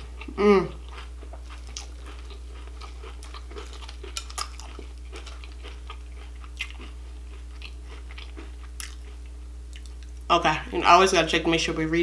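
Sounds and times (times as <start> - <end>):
soft chewing: 0.0 - 10.3.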